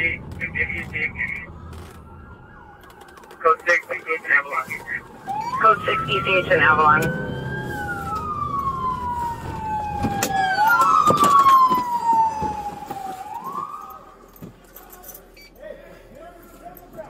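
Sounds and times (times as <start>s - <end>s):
police sirens wailing: 0.0s - 14.6s.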